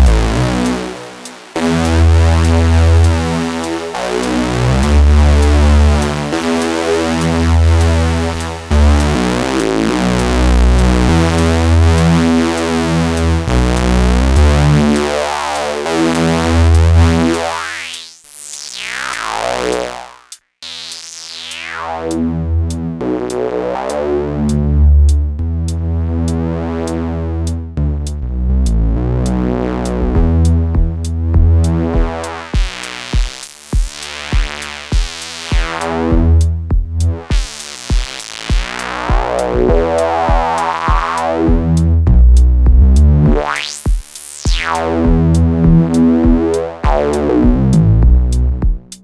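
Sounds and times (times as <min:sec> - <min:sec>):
gritty synth bass pattern: 0:00.0 - 0:49.0.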